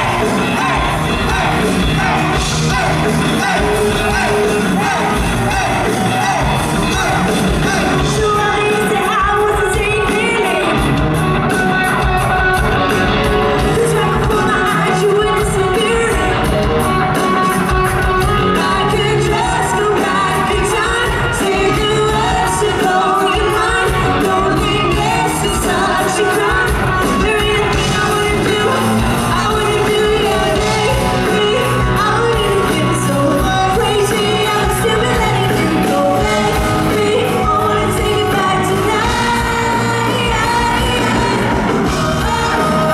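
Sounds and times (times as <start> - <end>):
woman singing lead: 0.0 - 12.4, 13.6 - 42.9
drums: 0.0 - 42.9
electric guitar: 0.0 - 42.9.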